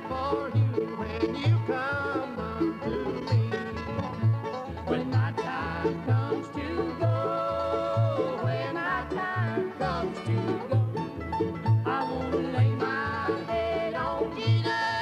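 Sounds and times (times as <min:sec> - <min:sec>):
instrumental country music: 0:00.0 - 0:15.0.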